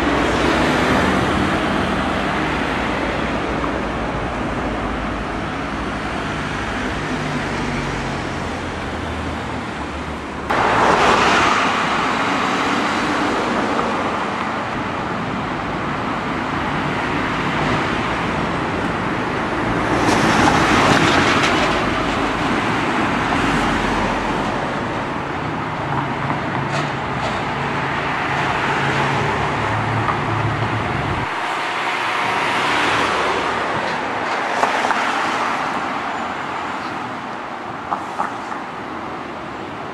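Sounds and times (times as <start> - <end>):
cars passing by: 0.0 - 39.9.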